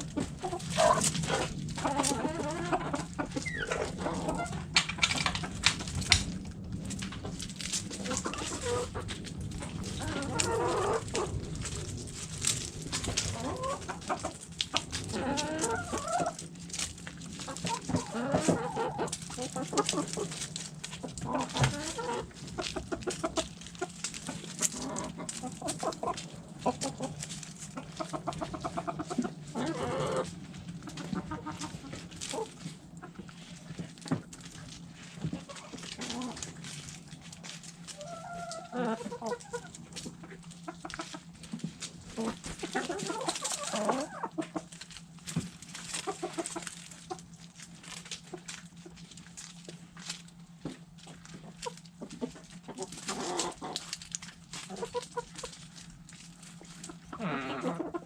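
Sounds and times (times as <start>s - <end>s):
hens clucking: 0.0s - 58.0s
steady low hum: 0.0s - 58.0s.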